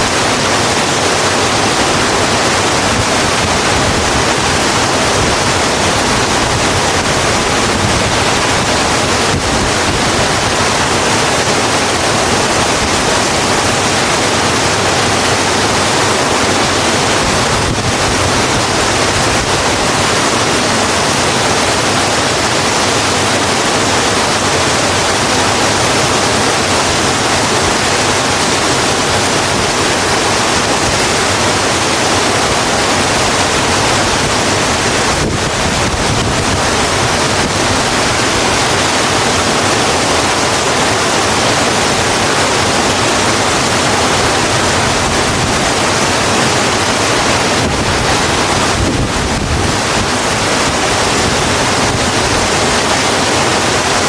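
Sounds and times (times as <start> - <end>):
heavy rain falling on a road: 0.0 - 54.0.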